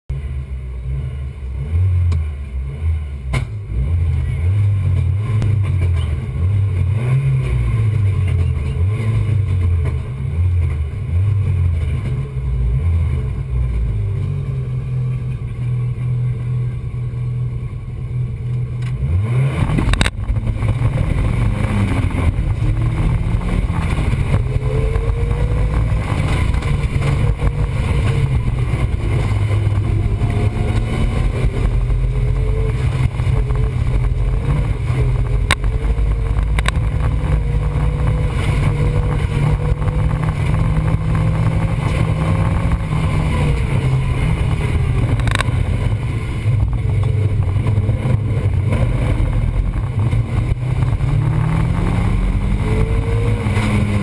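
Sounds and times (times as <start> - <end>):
car engine revving: 0.1 - 54.0.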